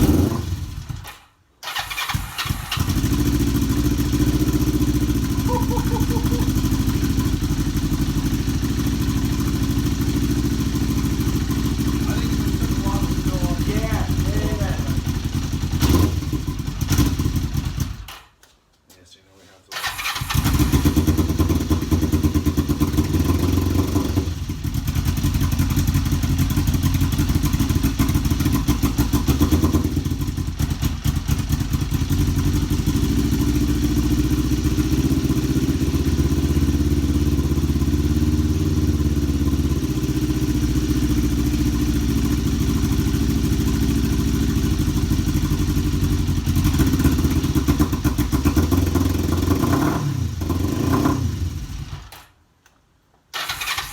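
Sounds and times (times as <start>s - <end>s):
motorcycle engine idling roughly: 2.5s - 18.1s, 19.8s - 49.7s.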